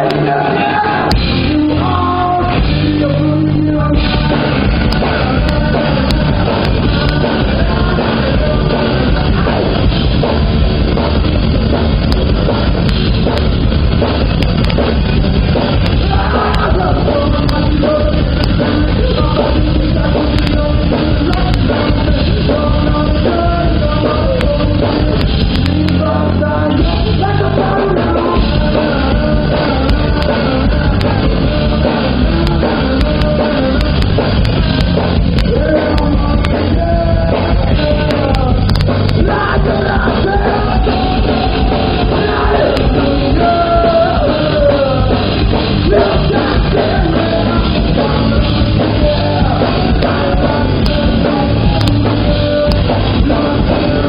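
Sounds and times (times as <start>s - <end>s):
man singing: 0.0s - 13.4s, 15.5s - 54.0s
live rock band: 0.0s - 54.0s.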